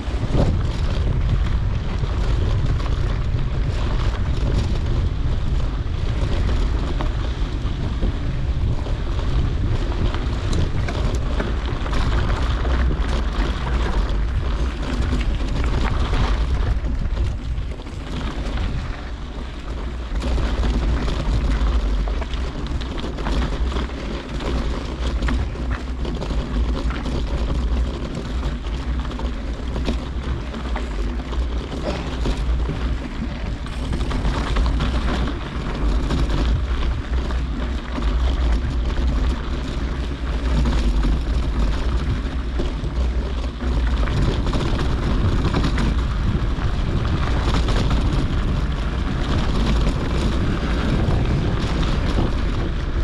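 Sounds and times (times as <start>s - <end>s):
bike tyres rattling on dirt: 0.0s - 53.0s
wind buffeting microphone: 0.0s - 53.0s.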